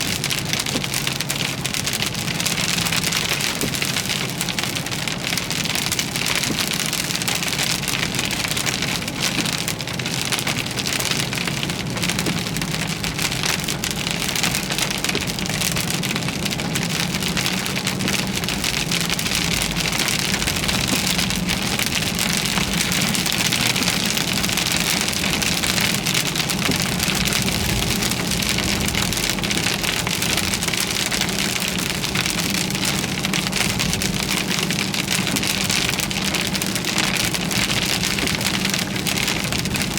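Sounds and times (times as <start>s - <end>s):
heavy rain on a car: 0.0s - 39.9s
vehicle humming: 0.0s - 39.9s.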